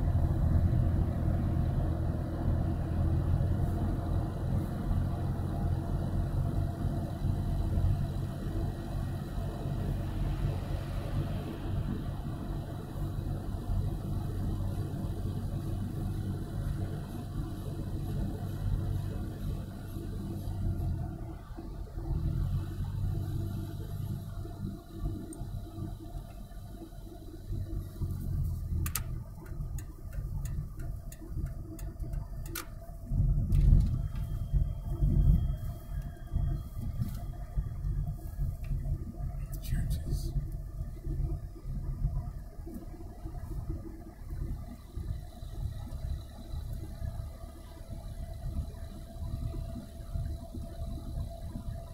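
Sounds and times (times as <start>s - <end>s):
car cruising rumble: 0.0s - 51.9s.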